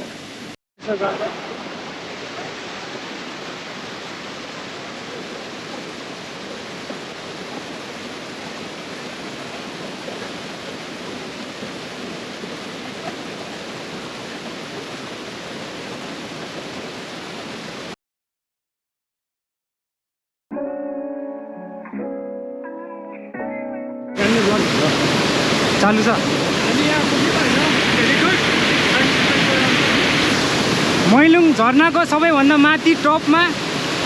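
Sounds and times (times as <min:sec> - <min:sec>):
waterfall rushing: 0:00.0 - 0:18.0, 0:24.2 - 0:34.0.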